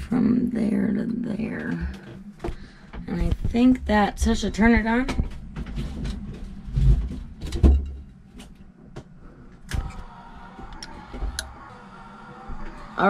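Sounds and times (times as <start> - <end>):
electric pump humming: 0.0 - 13.0.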